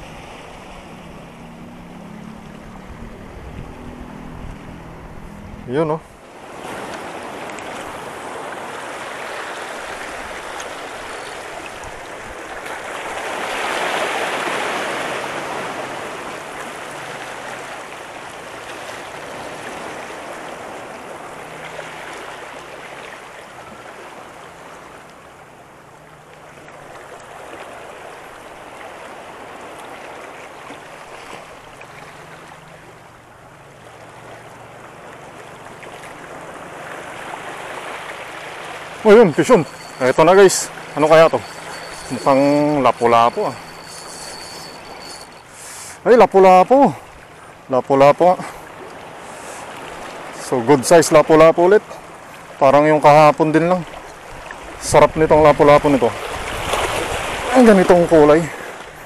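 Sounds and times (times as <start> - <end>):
waves washing over rocks: 5.7 - 59.0.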